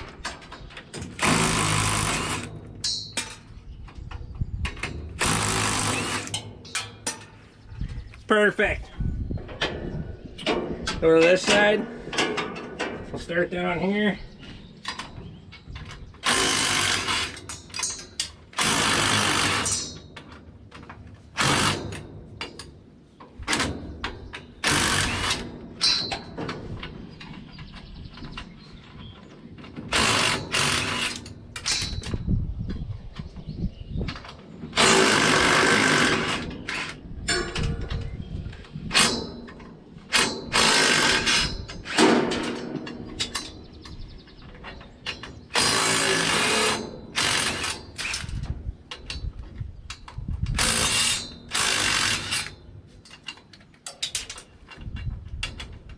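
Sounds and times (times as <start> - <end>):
power tool loosening bolts: 0.0 - 4.0, 4.7 - 7.3, 14.8 - 32.2, 34.1 - 55.9
metal clanks and rattles: 0.0 - 8.1, 9.0 - 55.9.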